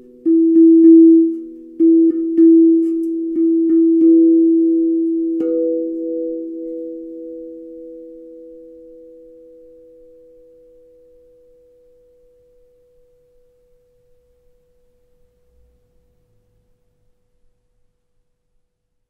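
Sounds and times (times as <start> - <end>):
steel tongue drum notes ringing: 0.0 - 16.2.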